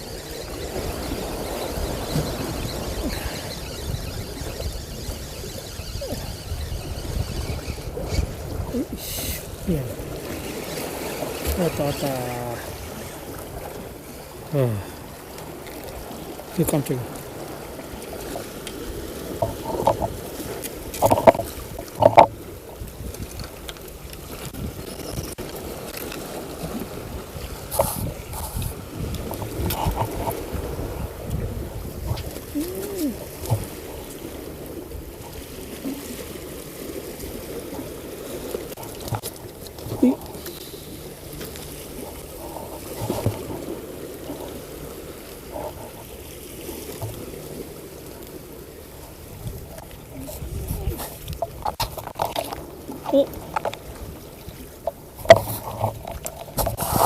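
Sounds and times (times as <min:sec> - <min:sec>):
water noise: 0:00.0 - 0:57.0
wind: 0:00.0 - 0:57.0.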